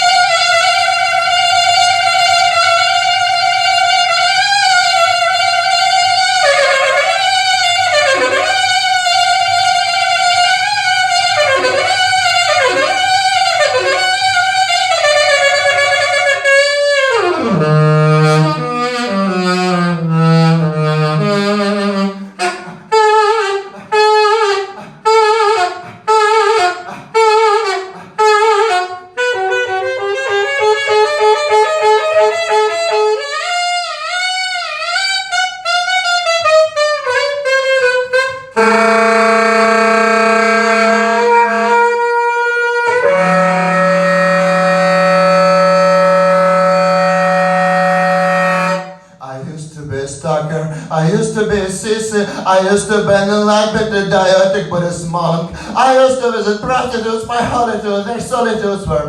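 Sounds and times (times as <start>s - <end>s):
reedy sax-like lead solo: 0.0s - 49.2s, 50.2s - 59.0s.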